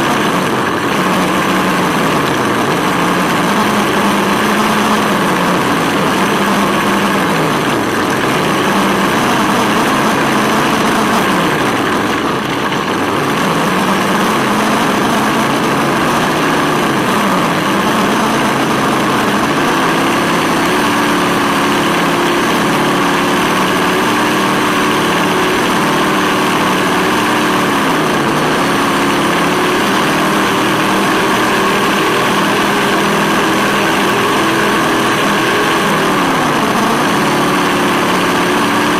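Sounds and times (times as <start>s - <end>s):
simulated engine sound from speaker: 0.0s - 38.9s.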